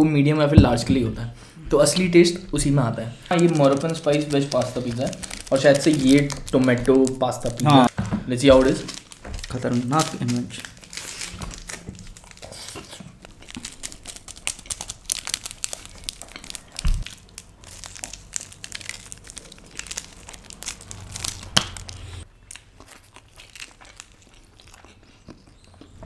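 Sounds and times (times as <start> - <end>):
people chewing crunchy pizza crust: 3.1 - 7.9, 8.7 - 26.0.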